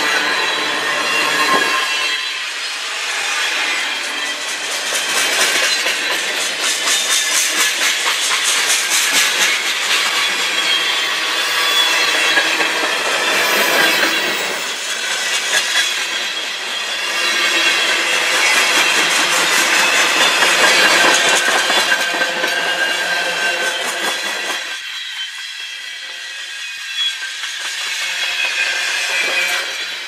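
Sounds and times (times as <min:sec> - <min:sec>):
freight train cars rolling past: 0:00.0 - 0:30.0.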